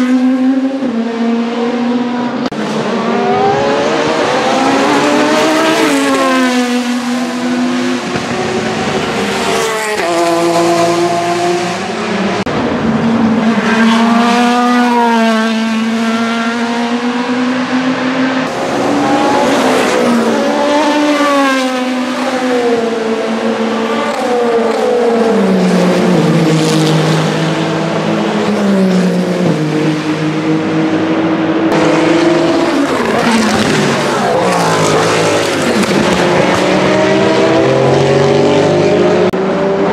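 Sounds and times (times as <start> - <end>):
race cars passing at speed: 0.0 - 39.9.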